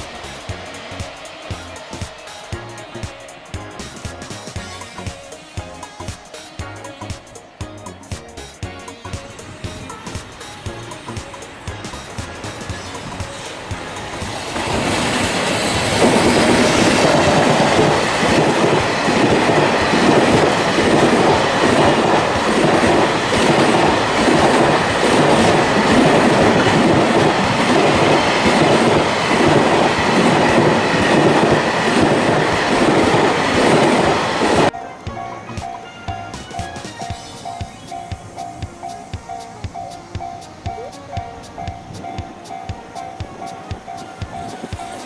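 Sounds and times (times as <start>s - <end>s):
rhythmic clickety-clack: 0.0s - 45.0s
train wheels rumbling on rail: 0.0s - 45.0s.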